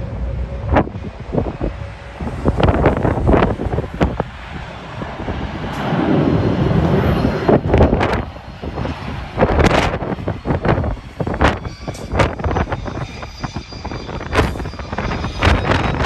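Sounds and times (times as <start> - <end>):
jet engine noise: 0.0 - 16.0
wind buffeting microphone: 0.0 - 16.0.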